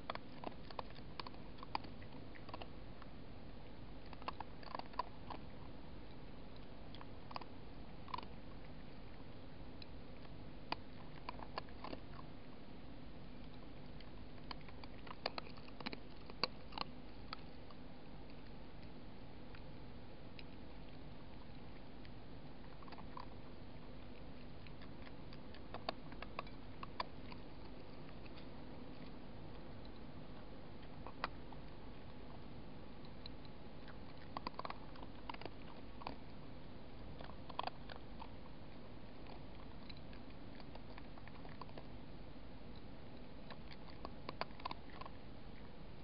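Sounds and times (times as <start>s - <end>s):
faint hum: 0.0s - 46.0s
fox chewing crunches: 0.0s - 46.0s.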